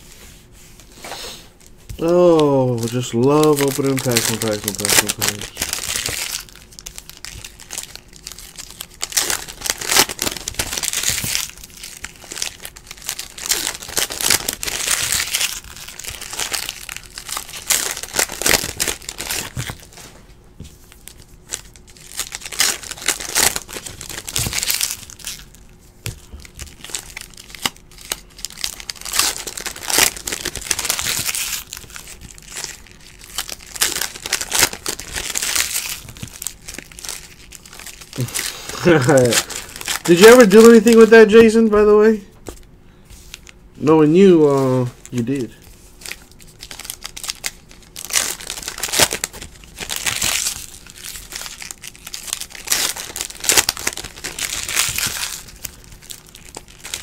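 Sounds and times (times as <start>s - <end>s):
foil wrappers crinkling and tearing: 1.6s - 20.2s, 20.8s - 42.6s, 43.2s - 57.0s.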